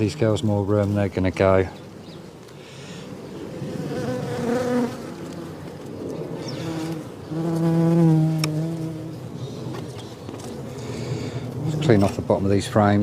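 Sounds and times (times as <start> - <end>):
honey bees buzzing: 1.4 - 12.2.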